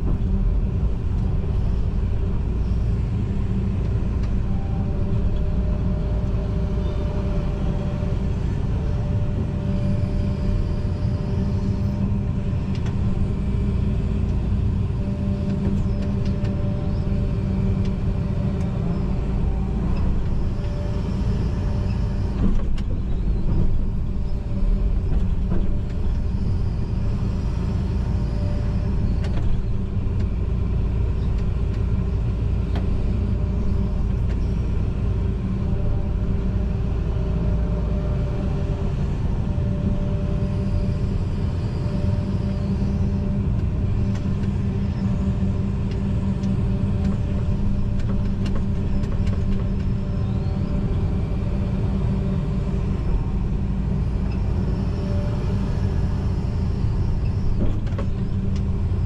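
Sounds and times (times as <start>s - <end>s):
excavator engine running: 0.0s - 59.0s
whine: 0.0s - 59.0s.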